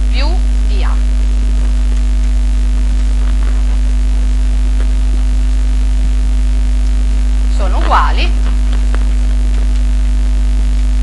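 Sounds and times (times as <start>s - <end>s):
electrical mains hum: 0.0s - 11.0s
faint buzz: 0.0s - 11.0s.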